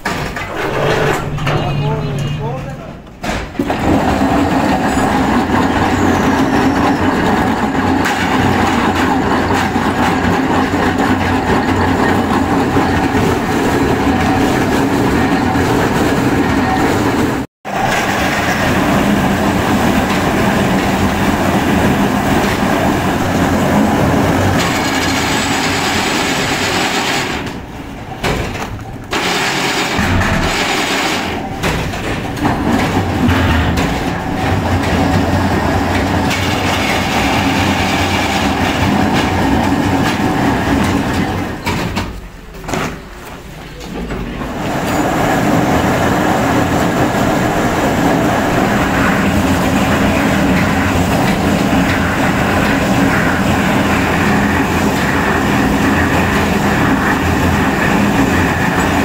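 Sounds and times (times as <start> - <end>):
factory machinery running: 0.0 - 59.0.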